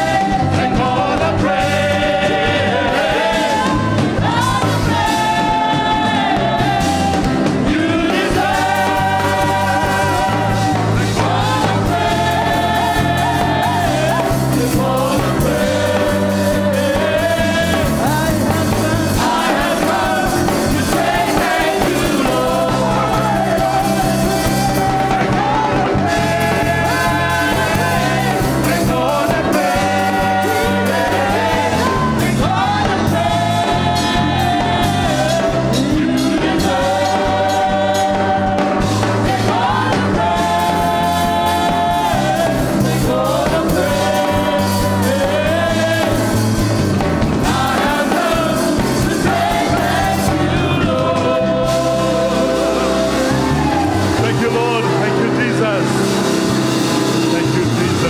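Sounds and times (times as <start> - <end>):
bass line: 0.0 - 58.0
drums: 0.0 - 58.0.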